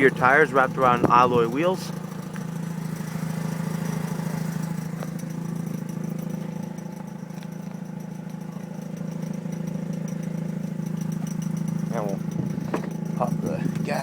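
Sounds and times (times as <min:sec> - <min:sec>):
rotary engine idling: 0:00.0 - 0:14.0.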